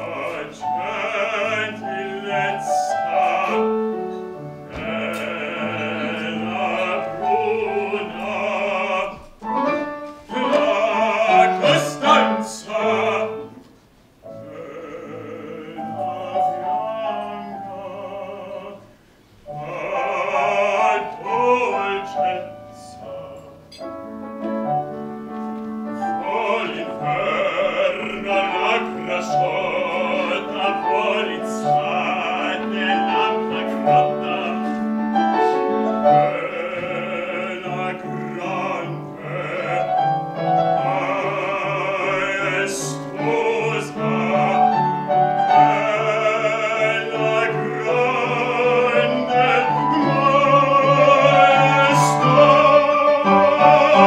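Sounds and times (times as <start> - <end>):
operatic voice singing: 0.0 - 9.3, 10.3 - 13.6, 14.4 - 18.9, 19.5 - 23.7, 26.2 - 54.0
piano accompaniment: 0.0 - 54.0.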